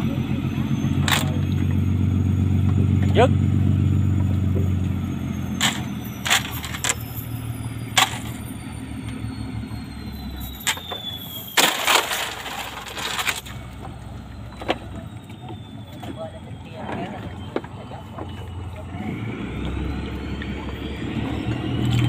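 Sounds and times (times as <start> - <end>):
small boat engine running: 0.0 - 22.0.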